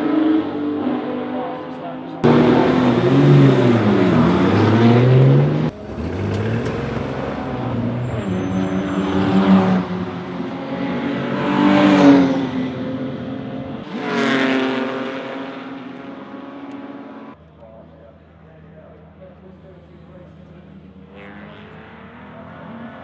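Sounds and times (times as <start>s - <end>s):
racing car engines passing: 0.0s - 17.4s, 18.2s - 23.0s.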